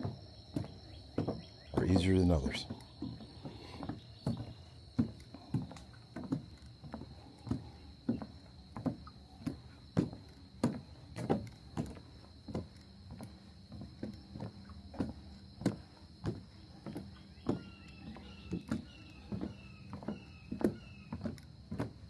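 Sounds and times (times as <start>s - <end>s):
footsteps on wooden boardwalk: 0.0s - 22.0s.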